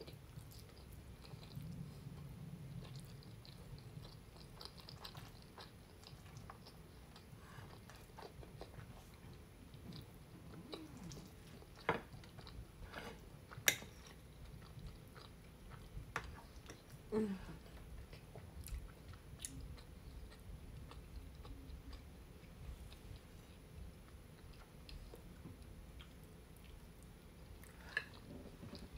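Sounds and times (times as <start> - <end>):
chewing food: 0.0 - 28.9.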